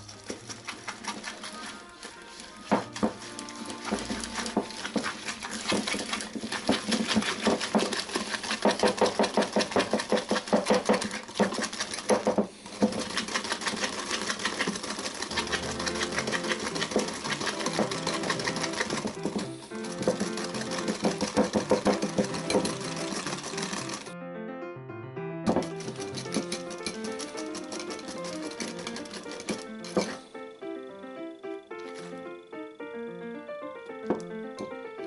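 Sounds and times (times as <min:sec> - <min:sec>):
whisk clicking against ceramic bowl: 0:00.0 - 0:24.1, 0:25.5 - 0:30.2.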